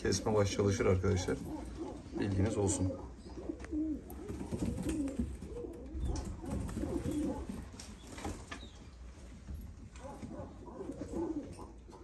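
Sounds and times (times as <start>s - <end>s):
pigeons cooing: 0.0s - 9.0s, 9.8s - 12.0s.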